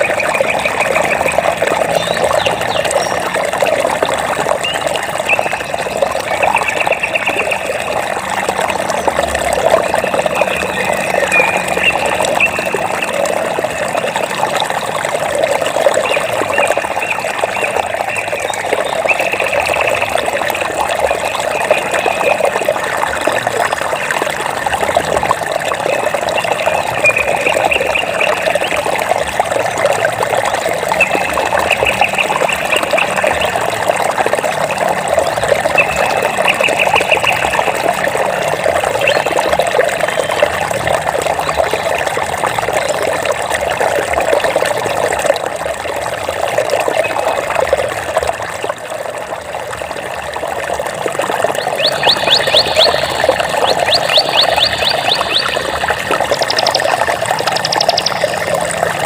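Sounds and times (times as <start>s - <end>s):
water trickling and babbling: 0.0s - 59.0s.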